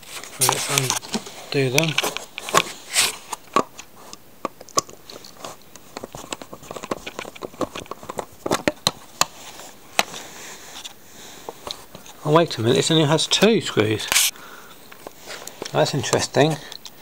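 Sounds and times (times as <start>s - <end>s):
plastic base being handled: 0.0s - 14.3s, 14.9s - 16.8s.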